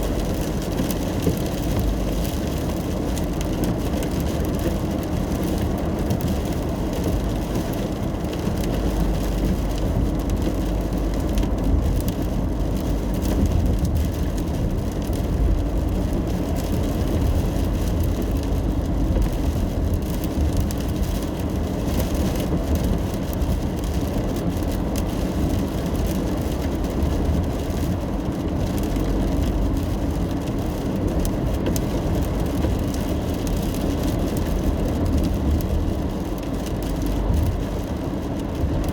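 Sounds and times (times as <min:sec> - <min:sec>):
rain pattering on car: 0:00.0 - 0:38.9
tyre and engine rumble: 0:00.0 - 0:38.9.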